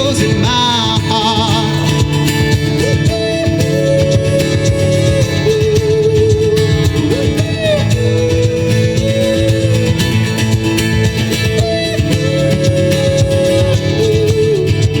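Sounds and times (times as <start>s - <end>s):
held melody line: 0.0s - 15.0s
strummed guitar: 0.0s - 15.0s.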